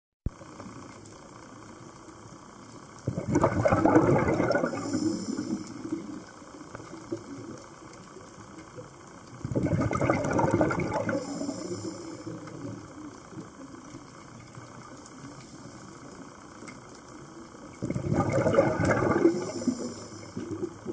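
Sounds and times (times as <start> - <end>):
faint high hiss: 0.3 - 20.9
underwater bubbles gurgling: 0.3 - 20.9.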